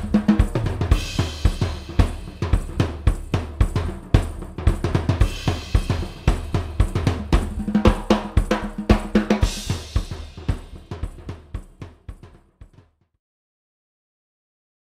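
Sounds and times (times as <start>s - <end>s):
drum kit groove: 0.0s - 12.8s.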